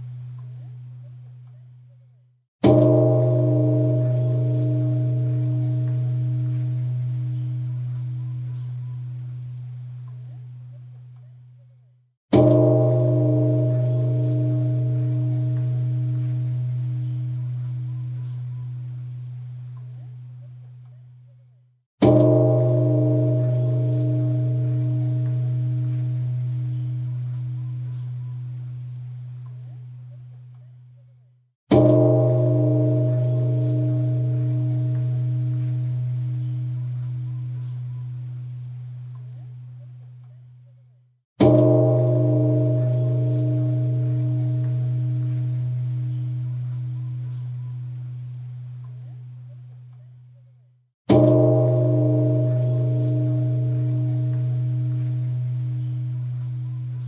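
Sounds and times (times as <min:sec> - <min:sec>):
deep temple bell ringing: 0:02.6 - 0:11.4, 0:12.3 - 0:21.0, 0:22.0 - 0:30.4, 0:31.7 - 0:40.3, 0:41.4 - 0:50.0, 0:51.1 - 0:57.0.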